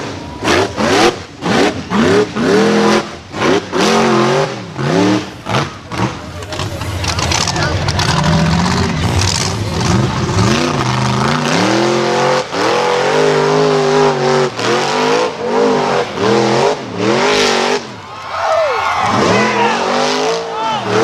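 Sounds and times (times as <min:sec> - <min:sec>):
off-road vehicle engine revving: 0:00.0 - 0:18.1, 0:19.0 - 0:21.0.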